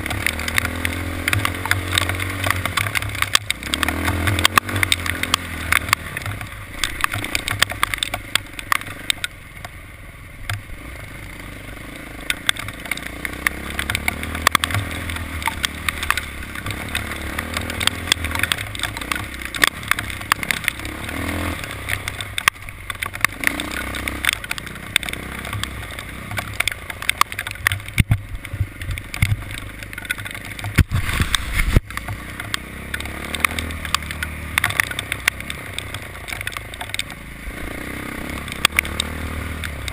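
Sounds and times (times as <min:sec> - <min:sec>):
sharp clicks and knocks: 0:00.0 - 0:09.8, 0:10.4 - 0:10.7, 0:11.7 - 0:39.9
vehicle engine running: 0:00.0 - 0:39.9.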